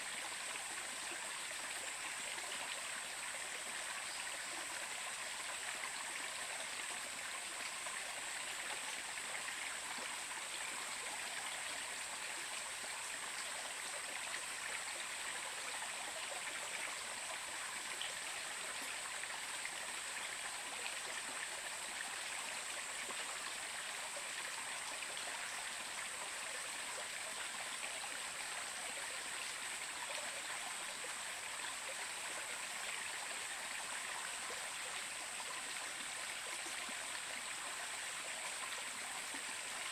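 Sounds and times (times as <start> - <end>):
steady high-pitched hiss: 0.0 - 39.9
stream of water running: 0.0 - 39.9.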